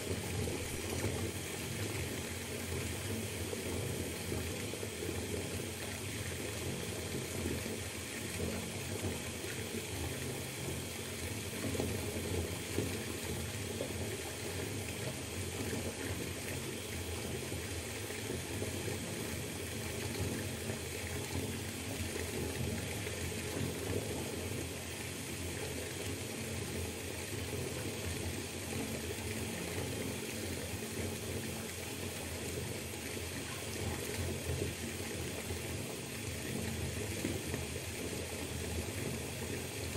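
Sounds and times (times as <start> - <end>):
tap water filling bathtub: 0.0 - 39.9.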